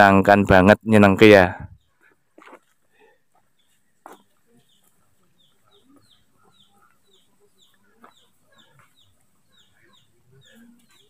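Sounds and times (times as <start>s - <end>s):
chicks peeping: 1.6s - 11.0s
hens clucking softly: 1.8s - 11.0s.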